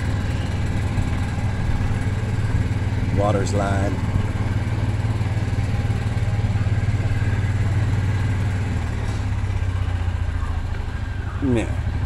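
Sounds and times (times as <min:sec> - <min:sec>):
golf cart engine droning: 0:00.0 - 0:12.0.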